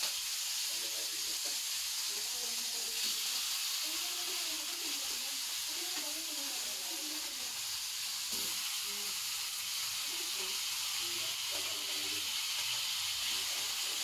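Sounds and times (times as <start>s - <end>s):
chicken sizzling in a wok: 0.0s - 14.0s.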